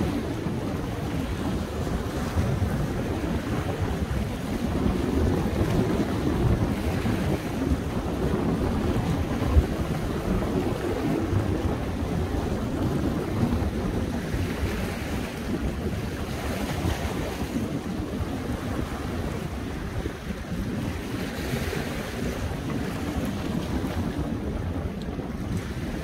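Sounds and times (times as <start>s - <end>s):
waves washing against rocks: 0.0s - 26.0s
wind buffeting microphone: 0.0s - 26.0s.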